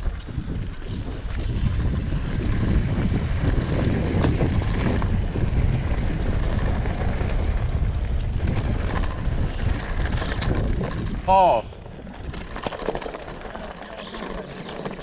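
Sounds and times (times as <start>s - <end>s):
wind rushing over microphone: 0.0s - 12.6s
bike rattling over rough trail: 0.0s - 15.0s.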